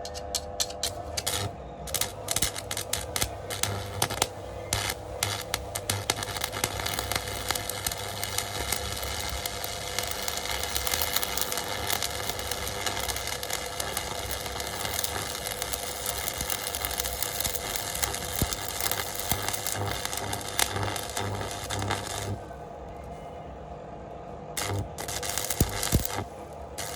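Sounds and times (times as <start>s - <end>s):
welding arc crackling: 0.0s - 22.6s, 24.6s - 26.9s
steady hum: 0.0s - 26.9s.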